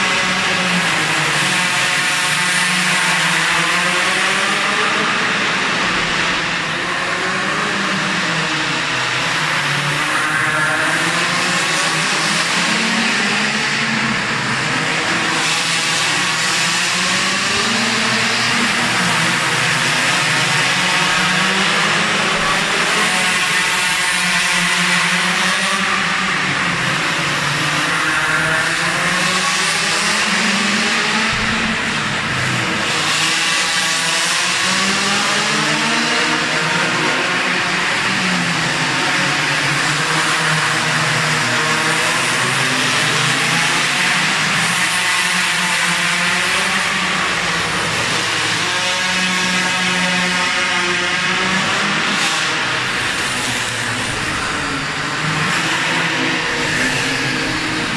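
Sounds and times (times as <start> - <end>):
small two-stroke engines buzzing: 0.0 - 57.9.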